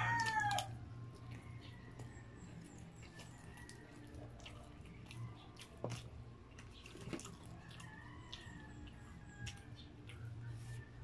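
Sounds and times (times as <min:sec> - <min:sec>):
close chewing: 0:00.0 - 0:11.0.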